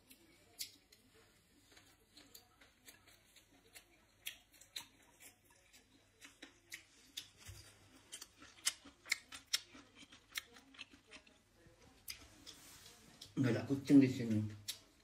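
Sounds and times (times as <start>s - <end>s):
mouth clicks and smacks eating: 0.0s - 1.1s, 1.7s - 11.4s, 12.0s - 13.4s, 14.6s - 15.0s.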